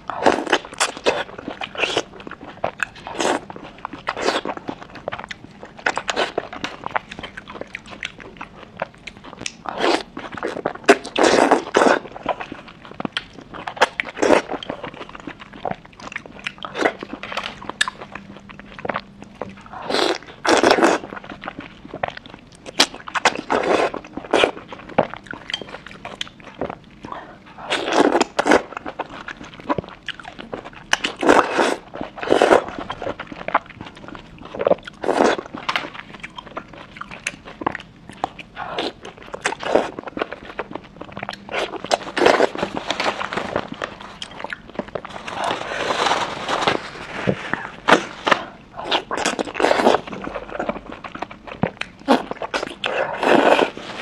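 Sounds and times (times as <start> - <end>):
biting and chewing: 0.0 - 54.0.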